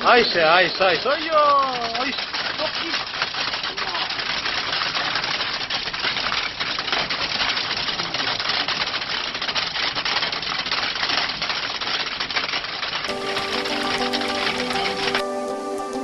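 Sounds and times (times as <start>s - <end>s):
hailstones clattering on ground: 0.0s - 16.0s.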